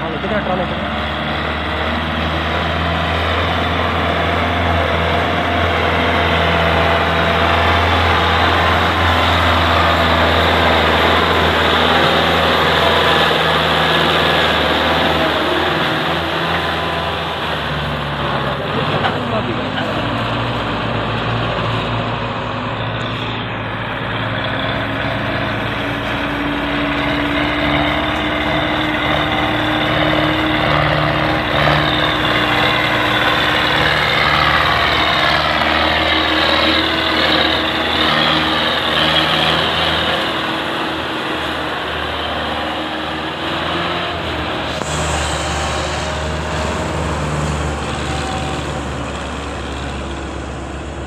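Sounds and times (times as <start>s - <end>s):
tractor diesel engines running: 0.0s - 51.0s.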